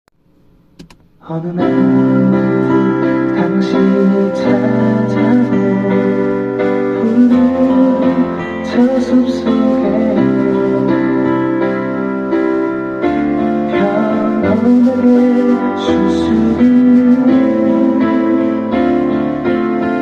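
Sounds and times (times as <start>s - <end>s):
worship song with sustained chords: 1.2s - 20.0s.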